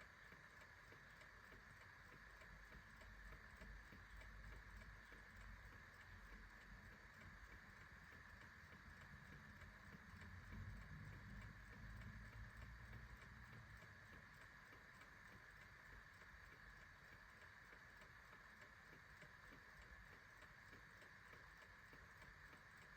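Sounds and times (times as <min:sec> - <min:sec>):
clock ticking: 0:00.0 - 0:22.9
low hiss and rumble: 0:00.0 - 0:22.9.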